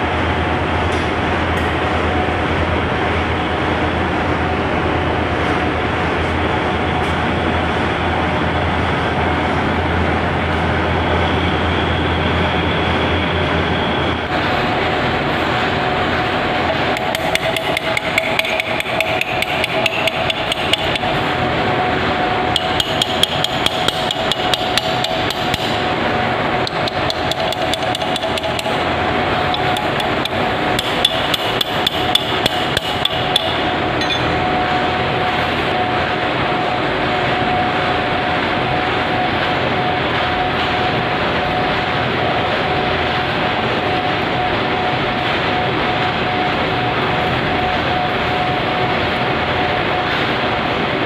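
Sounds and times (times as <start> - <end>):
machine drone: 0.0 - 51.0.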